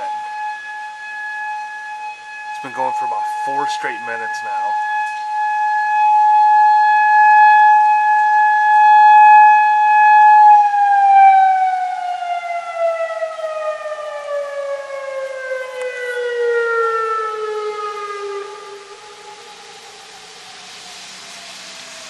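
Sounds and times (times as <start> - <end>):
warning siren winding down: 0.0 - 22.0.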